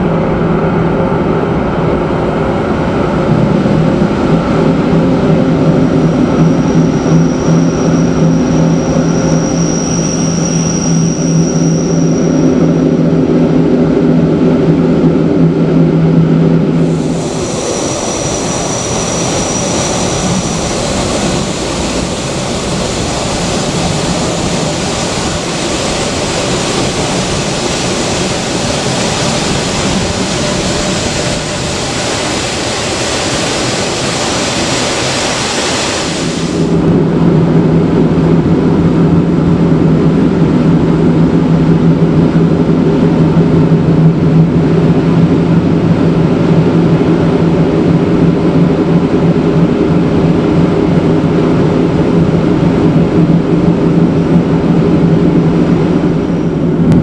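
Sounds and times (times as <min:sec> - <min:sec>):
steady low hum: 0:00.0 - 0:57.0
train rushing noise: 0:00.0 - 0:57.0.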